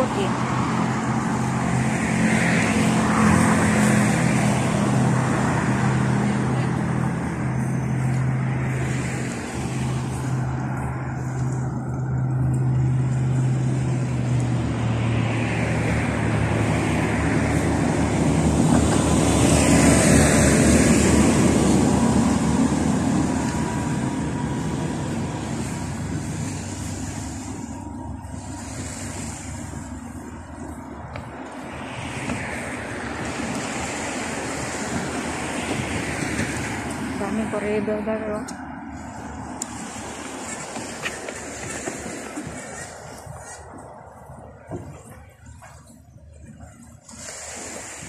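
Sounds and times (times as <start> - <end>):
cars passing close by: 0.0 - 48.0
low engine hum: 0.0 - 48.0.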